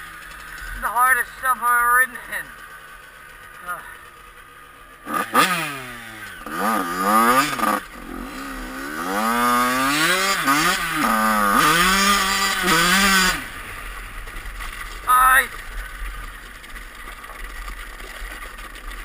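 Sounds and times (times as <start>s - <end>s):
dirt bike engine revving: 0.0s - 16.8s.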